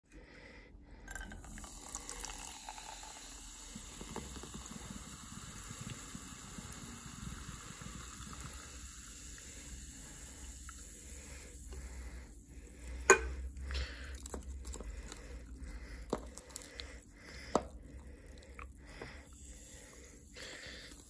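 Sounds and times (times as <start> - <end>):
liquid bubbling: 1.2 - 21.0.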